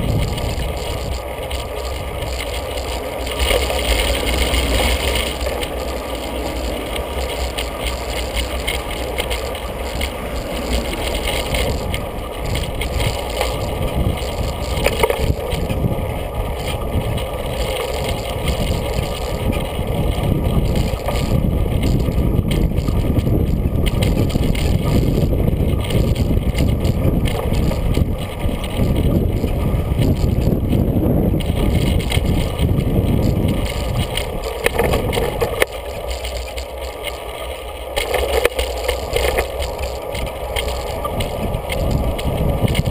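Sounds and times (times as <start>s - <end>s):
bicycle tyres rumbling on pavement: 0.0s - 42.9s
wind noise: 0.0s - 42.9s.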